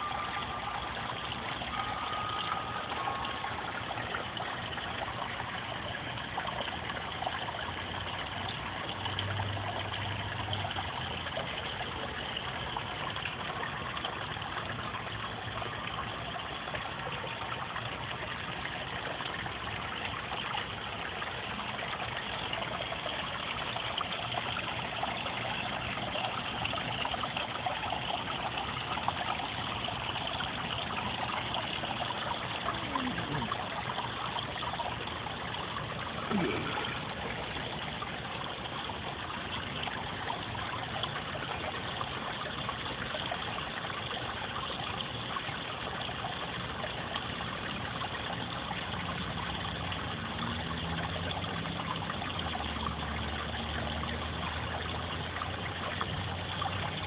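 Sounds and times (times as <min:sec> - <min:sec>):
water trickling down waterfall: 0:00.0 - 0:57.0.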